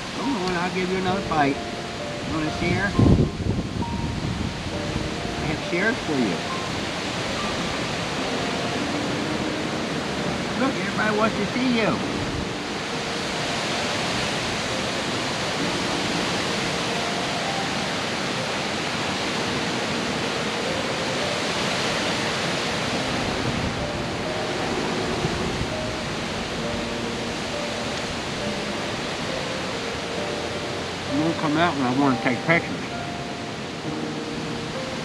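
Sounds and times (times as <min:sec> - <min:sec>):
strong wind blowing: 0:00.0 - 0:35.0.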